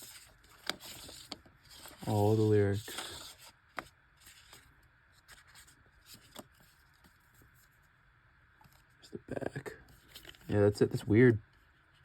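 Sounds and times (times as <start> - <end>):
paper booklet rustling: 0.0 - 7.8, 8.6 - 11.0.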